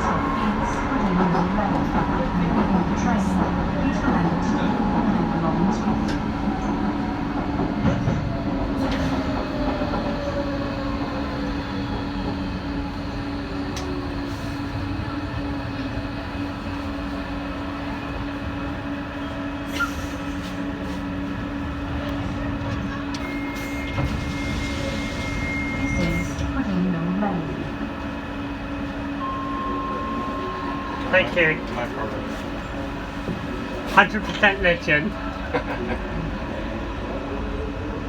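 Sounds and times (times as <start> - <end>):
train running hum: 0.0 - 38.0.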